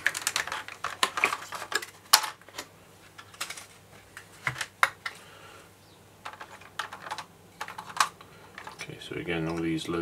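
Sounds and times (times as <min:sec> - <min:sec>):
plastic packaging clicks and crackles: 0:00.0 - 0:05.2, 0:06.2 - 0:09.8.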